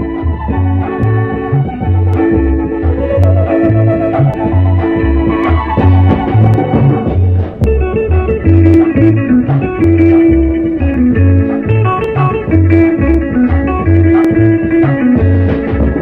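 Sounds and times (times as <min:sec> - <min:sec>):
guitar: 0:00.0 - 0:16.0
repeating bass line: 0:00.0 - 0:16.0.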